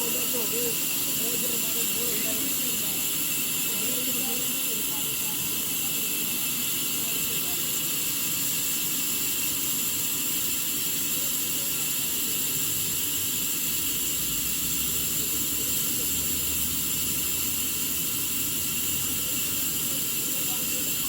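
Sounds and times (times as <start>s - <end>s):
sawmill saw running: 0.0s - 21.0s.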